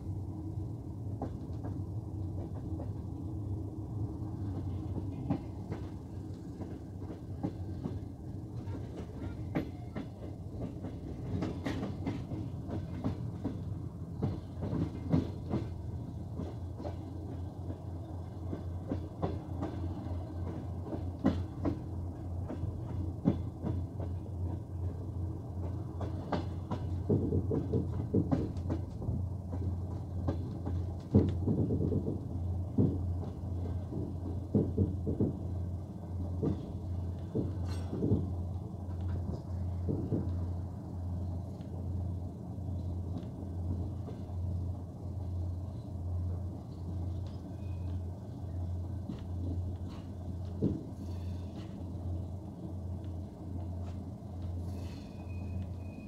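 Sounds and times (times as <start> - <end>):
train low rumble: 0.0 - 56.0
train wheels clicking over rail joints: 1.1 - 3.2, 4.4 - 56.0.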